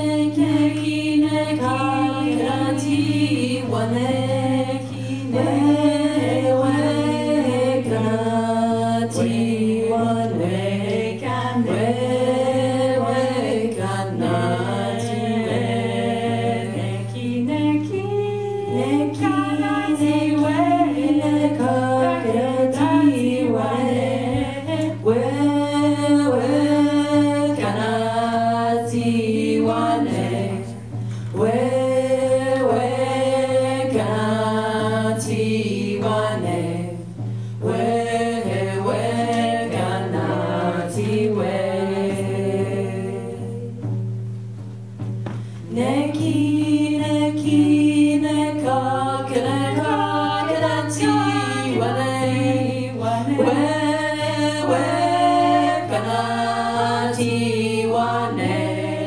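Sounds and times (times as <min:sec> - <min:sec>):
women singing together: 0:00.0 - 0:44.2, 0:45.0 - 0:59.0.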